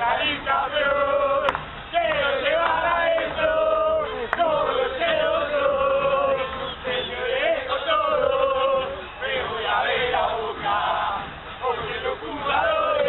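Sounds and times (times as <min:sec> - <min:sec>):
crowd singing a chant: 0:00.0 - 0:13.0.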